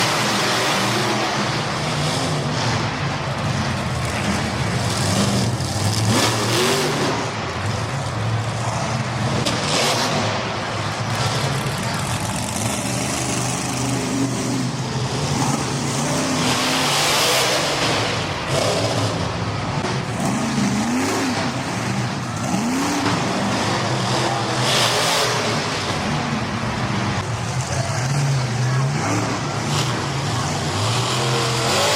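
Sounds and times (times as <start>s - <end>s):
vehicle engine revving: 0.0s - 31.9s.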